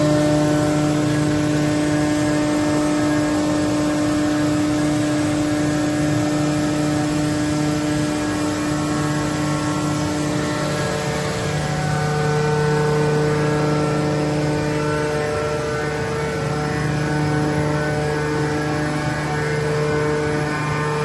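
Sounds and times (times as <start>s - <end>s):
machine tools humming: 0.0s - 21.0s.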